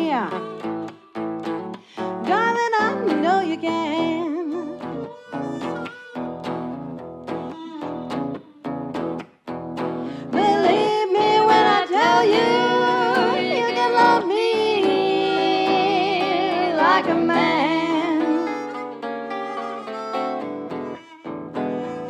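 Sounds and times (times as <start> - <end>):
acoustic blues band playing: 0.0 - 22.0
lead melody with bent notes: 0.0 - 22.0.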